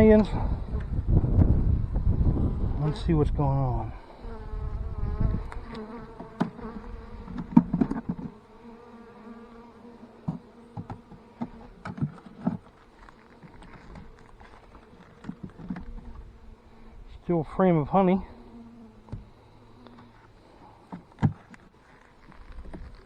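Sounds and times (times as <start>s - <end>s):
bees buzzing: 0.0s - 21.7s.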